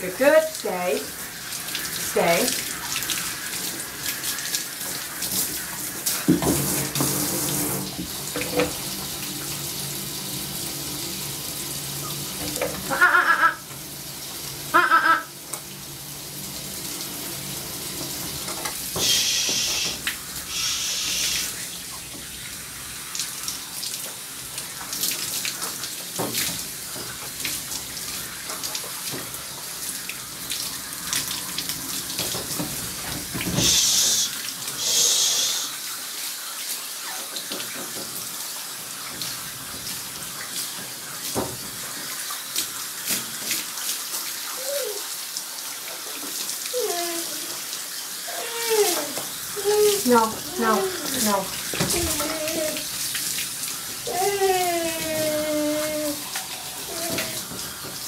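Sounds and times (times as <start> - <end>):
water spraying: 0.0 - 58.0.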